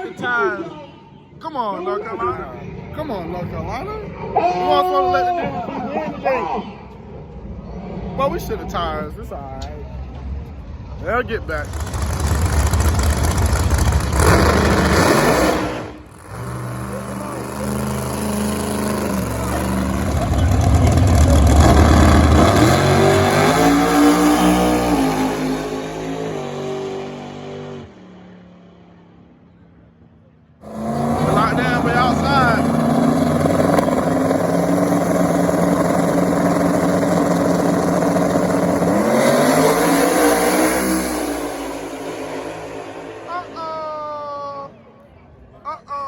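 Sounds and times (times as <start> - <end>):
race car engines roaring: 1.9 - 46.0.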